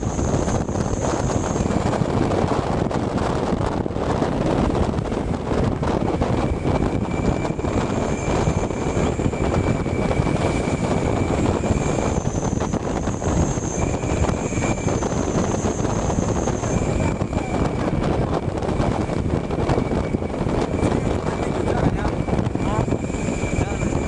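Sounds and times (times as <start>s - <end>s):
faint high whine: 0.0s - 2.3s, 5.8s - 24.0s
wind and road noise: 0.0s - 24.0s.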